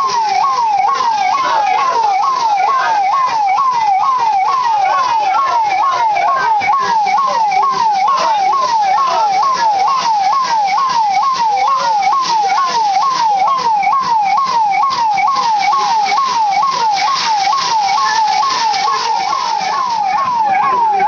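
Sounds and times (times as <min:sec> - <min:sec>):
police siren wailing: 0:00.0 - 0:21.0
water cannon jets hissing: 0:00.0 - 0:21.0.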